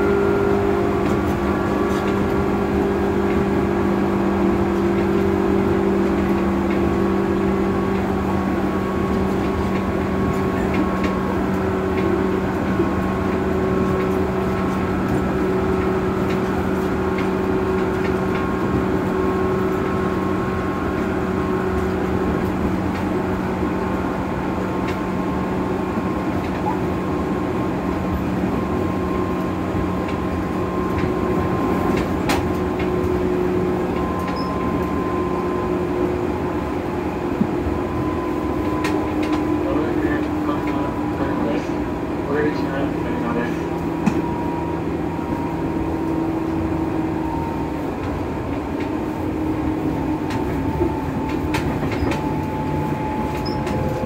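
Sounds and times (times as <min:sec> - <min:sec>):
train motor hum: 0:00.0 - 0:54.0
wheel-on-rail rumble: 0:00.0 - 0:54.0.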